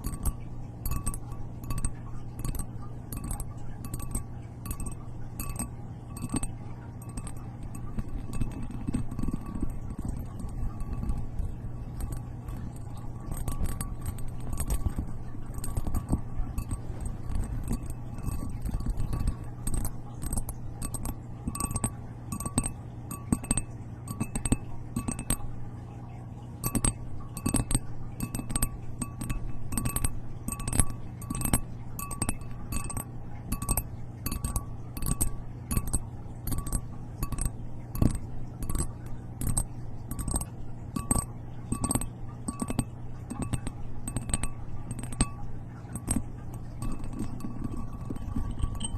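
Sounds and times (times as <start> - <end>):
tapping on glassy objects: 0.0 - 25.6, 26.6 - 48.9
steady low hum: 0.0 - 48.9.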